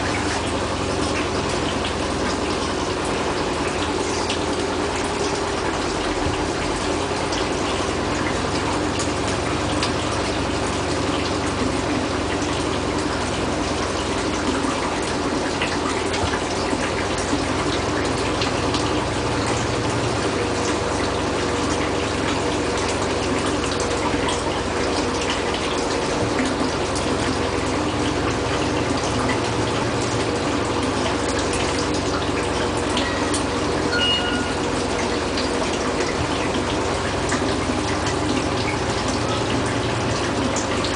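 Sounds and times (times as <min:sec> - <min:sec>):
washing machine hum: 0:00.0 - 0:40.9
water rushing in washing machine: 0:00.0 - 0:40.9.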